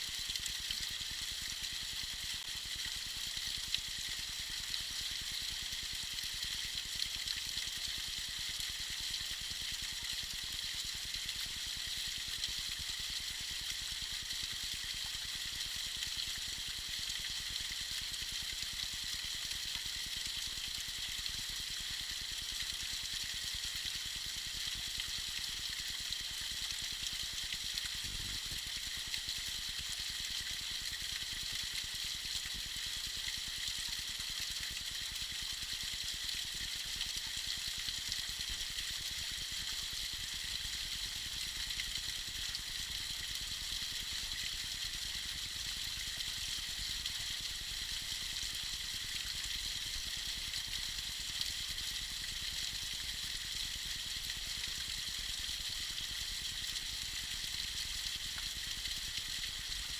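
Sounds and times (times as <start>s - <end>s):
small waterfall trickling: 0.0s - 59.9s.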